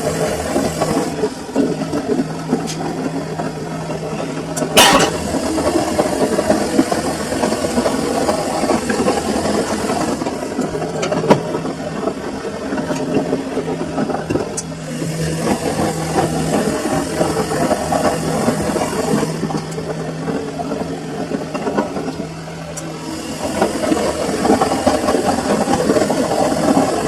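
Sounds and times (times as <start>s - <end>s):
washing machine churning and rattling: 0.0s - 27.0s
washing machine motor hum: 0.0s - 27.0s.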